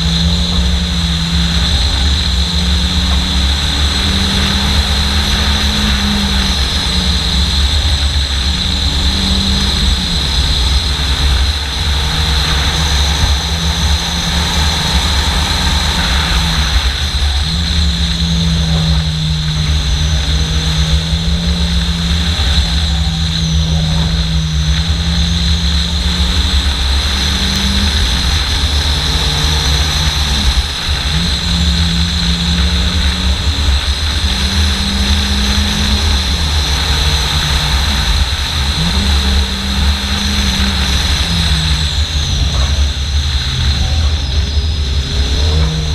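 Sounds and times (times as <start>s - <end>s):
small car engine pulling hard: 0.0s - 45.9s
wind and road noise rumble: 0.0s - 45.9s.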